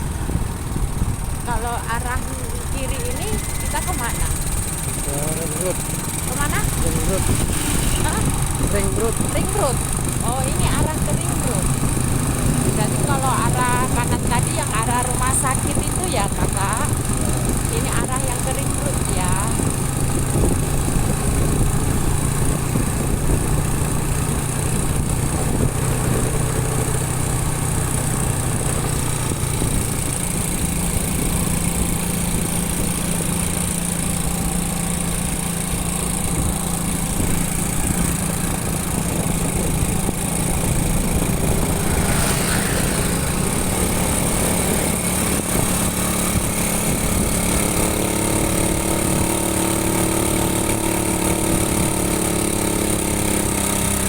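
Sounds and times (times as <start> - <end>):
wind rumble on microphone: 0.0 - 5.0, 5.8 - 54.0
motorcycle engine running: 0.0 - 54.0.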